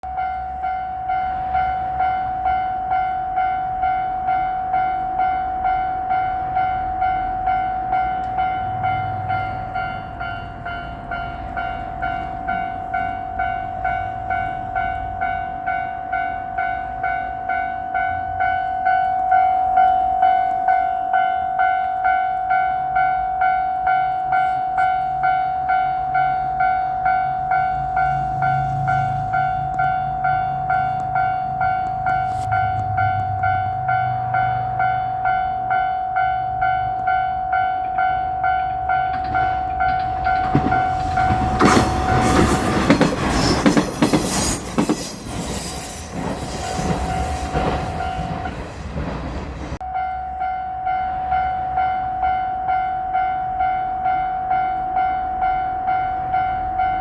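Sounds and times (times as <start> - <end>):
level crossing warning bell ringing: 0.0 - 48.9, 49.8 - 57.0
diesel railcar engine rumble: 0.0 - 57.0.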